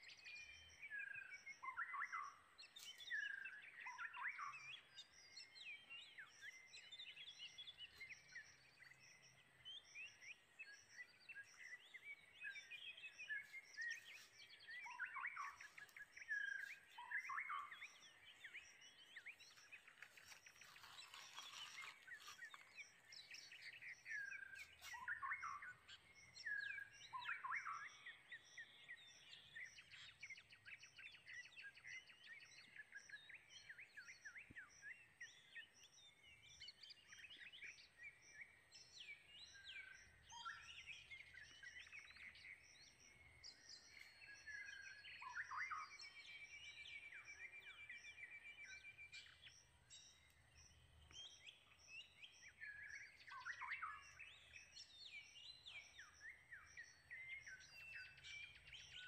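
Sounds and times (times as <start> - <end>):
faint birds chirping: 0.0 - 59.0.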